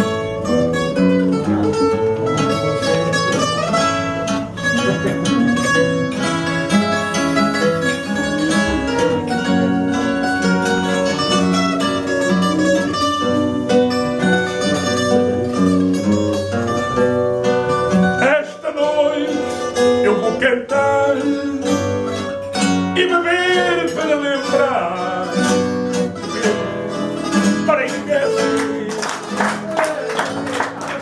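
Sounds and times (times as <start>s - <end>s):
classical guitar accompaniment: 0.0s - 31.0s
plucked guitar melody: 0.0s - 31.0s.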